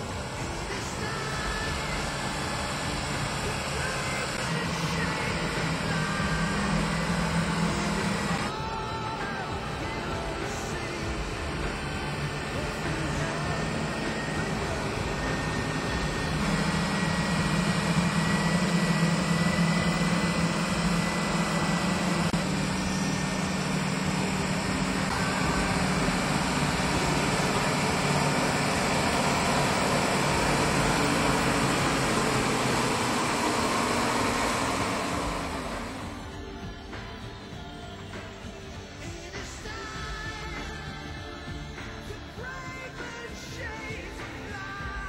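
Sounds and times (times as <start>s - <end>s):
constant rushing noise: 0.0s - 45.0s
truck engine under load: 0.0s - 45.0s.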